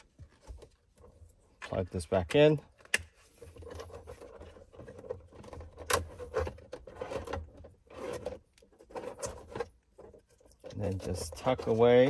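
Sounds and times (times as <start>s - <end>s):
hands rustling and scraping plastic trim: 0.0s - 12.0s.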